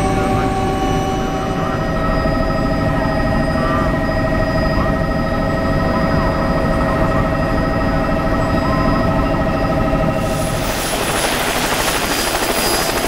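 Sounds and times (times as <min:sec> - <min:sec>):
helicopter engine and rotor drone: 0:00.0 - 0:13.0
pulsing whine: 0:00.0 - 0:13.0.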